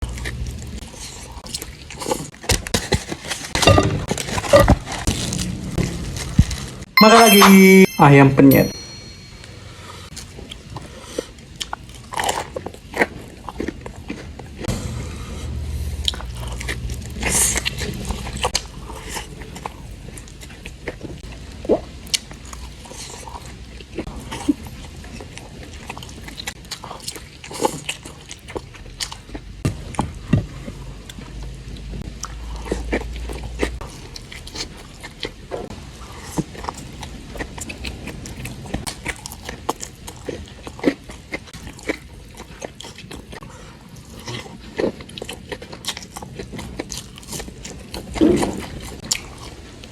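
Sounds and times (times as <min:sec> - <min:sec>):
person chewing with wet smacks: 0:00.0 - 0:03.5, 0:10.2 - 0:14.6, 0:16.0 - 0:49.9.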